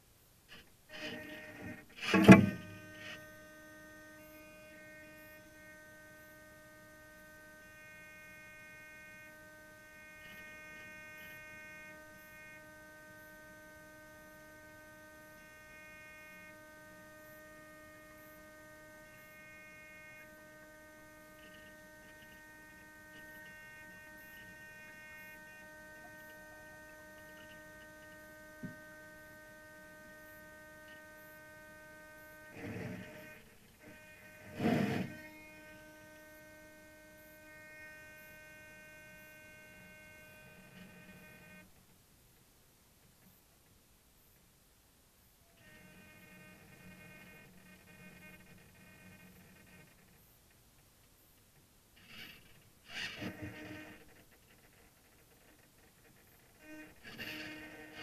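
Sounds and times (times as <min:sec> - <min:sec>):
steady electronic hum: 0:00.0 - 0:58.0.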